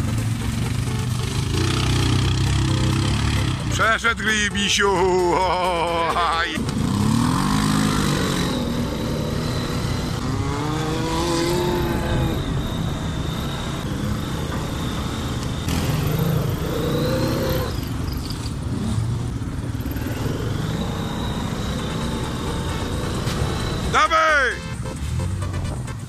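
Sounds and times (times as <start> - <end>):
quad bike engine revving: 0.0 - 3.8, 5.2 - 24.0.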